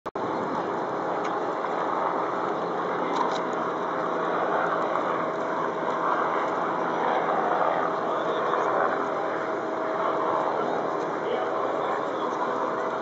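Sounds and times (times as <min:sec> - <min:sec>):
helicopter in flight: 0:00.2 - 0:13.0
turbine whine: 0:00.2 - 0:13.0.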